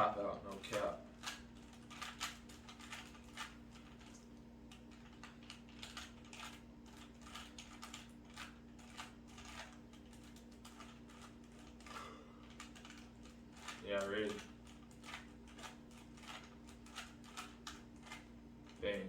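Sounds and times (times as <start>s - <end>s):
steady low hum: 0.0s - 19.0s
puzzle cube plastic clicks: 0.5s - 18.8s.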